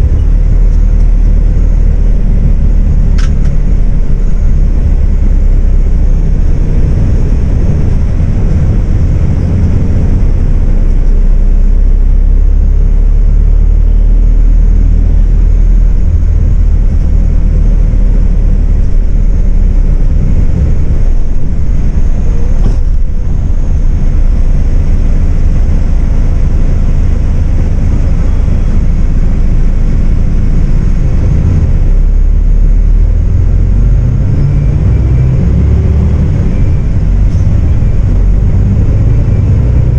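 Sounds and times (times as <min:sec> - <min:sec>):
bus diesel engine running: 0:00.0 - 0:39.9
tyre and road noise: 0:00.0 - 0:39.9.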